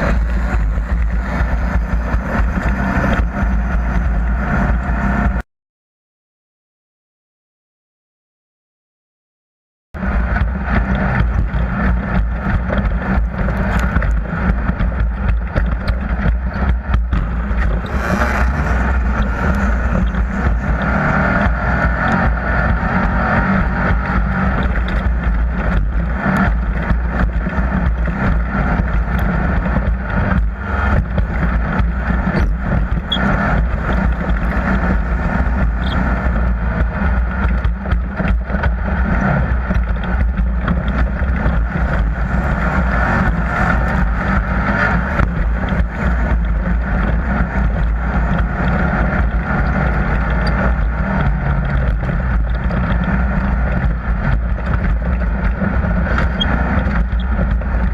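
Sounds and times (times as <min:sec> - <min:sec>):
engine droning: 0:00.0 - 0:05.4, 0:10.0 - 0:57.9.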